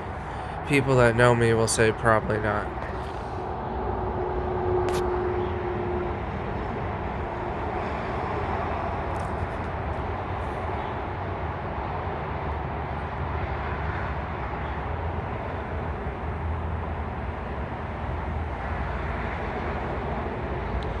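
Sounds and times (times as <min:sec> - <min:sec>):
highway traffic rushing: 0:00.0 - 0:21.0.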